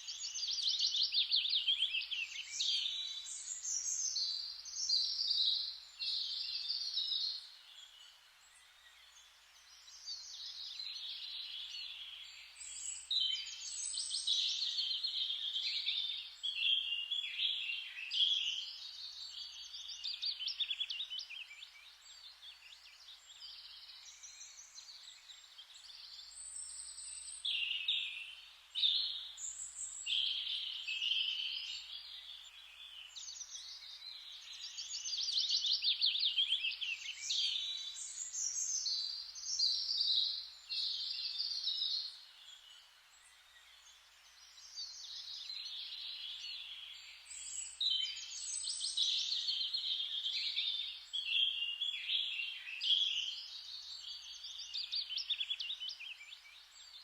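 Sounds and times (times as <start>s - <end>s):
faint forest hiss: 0.0s - 57.0s
songbirds singing: 0.0s - 57.0s.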